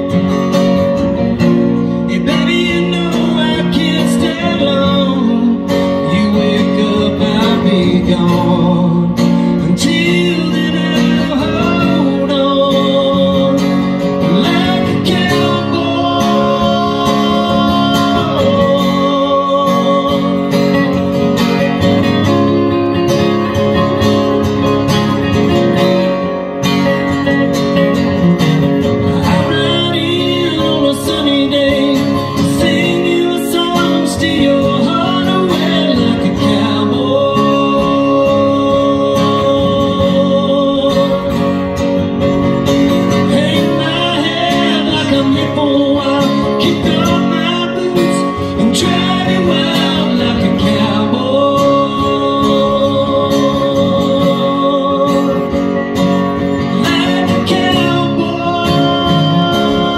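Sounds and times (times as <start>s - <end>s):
acoustic guitars strumming: 0.0s - 59.9s.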